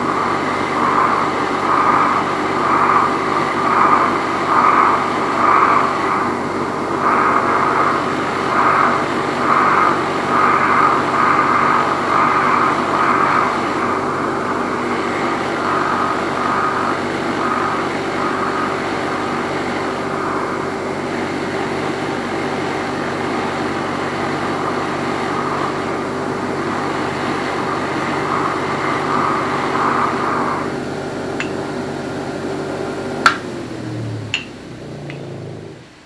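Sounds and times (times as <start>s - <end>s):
wire wheel motor spinning: 0.0s - 35.8s.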